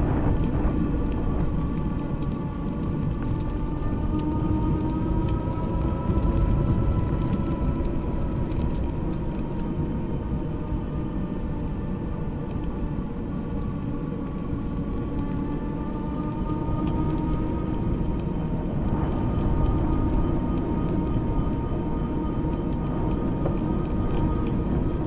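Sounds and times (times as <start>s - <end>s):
steady whine: 0.0s - 25.0s
wind and road noise: 0.0s - 25.0s.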